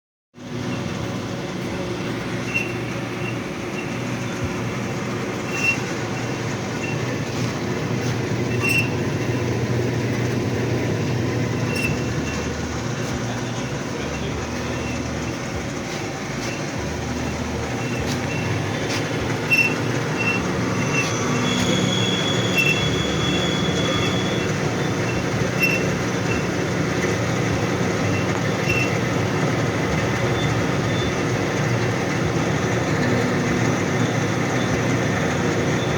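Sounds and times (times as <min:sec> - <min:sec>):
bandsaw hum: 0:00.4 - 0:35.9
high squeal: 0:00.4 - 0:35.9.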